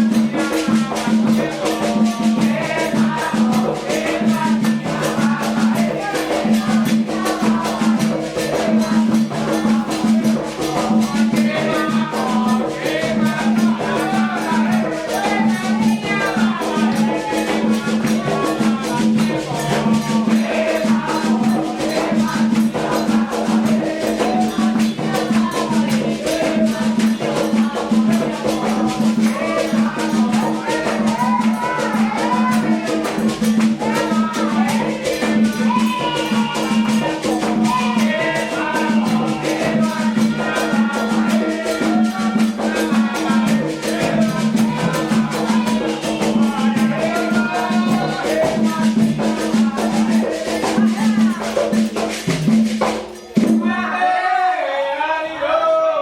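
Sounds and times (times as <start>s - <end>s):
group of voices singing: 0.0s - 56.0s.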